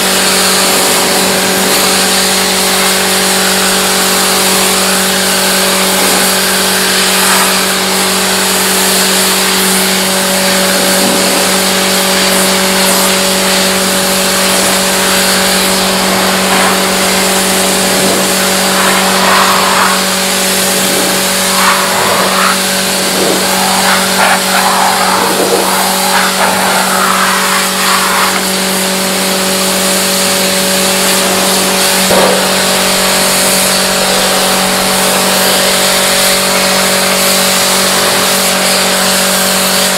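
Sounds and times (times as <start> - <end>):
machine humming: 0.0 - 38.5
loud hiss: 3.6 - 38.8.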